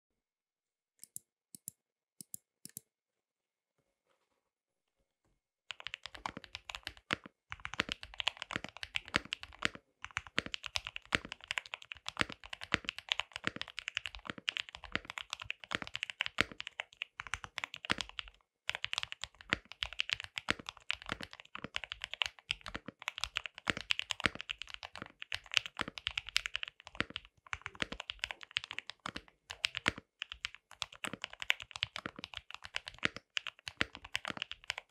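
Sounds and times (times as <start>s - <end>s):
mechanical keyboard typing: 5.7s - 34.9s.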